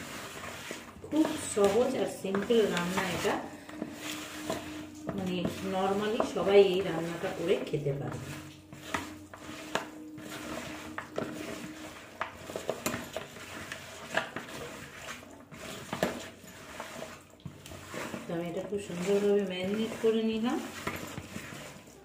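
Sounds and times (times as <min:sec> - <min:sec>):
wet hand mixing in bowl: 0:00.0 - 0:22.0.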